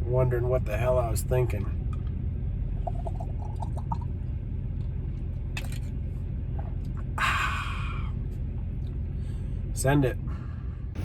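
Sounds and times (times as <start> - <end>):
engine idling low rumble: 0.0 - 11.0.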